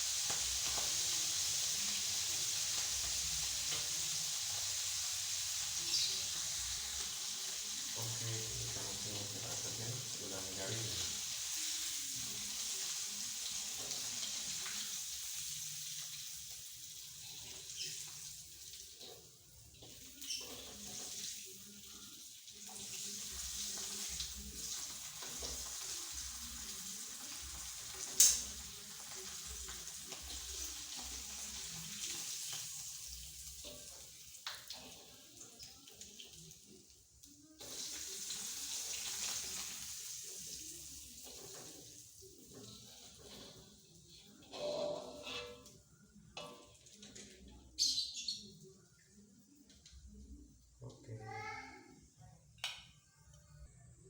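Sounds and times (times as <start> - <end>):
oil sizzling in a frying pan: 0.0 - 50.9.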